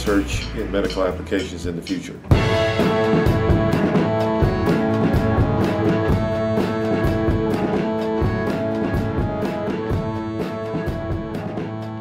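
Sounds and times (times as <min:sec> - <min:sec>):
instrumental guitar music: 0:00.0 - 0:12.0
steady drum beat: 0:00.0 - 0:12.0.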